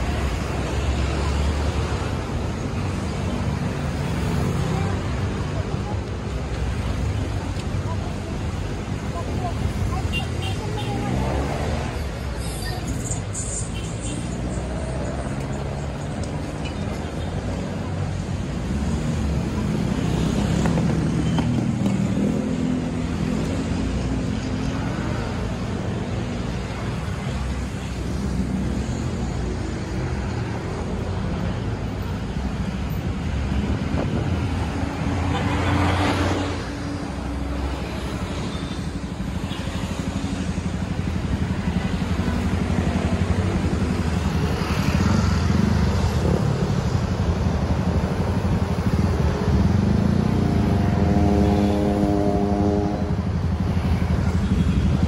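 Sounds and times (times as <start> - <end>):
motorcycles and cars passing: 0.0 - 55.0.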